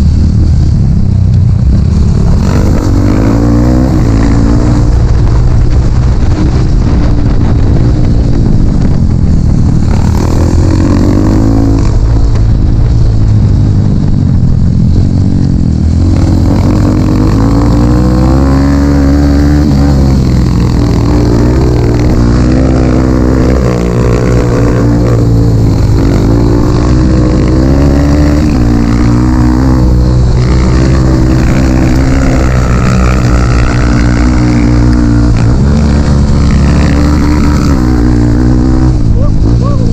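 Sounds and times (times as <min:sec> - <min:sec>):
dirt bike engine revving: 0:01.7 - 0:39.9.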